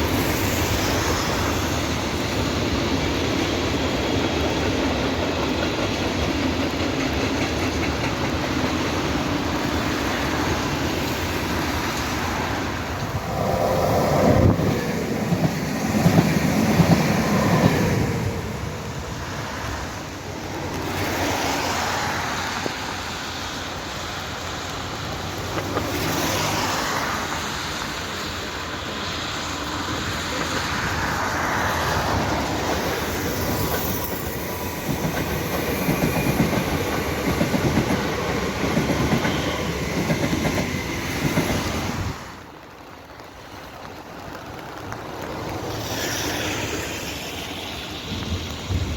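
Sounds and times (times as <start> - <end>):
train wheels clattering over rails: 0.0 - 23.7, 24.4 - 42.4.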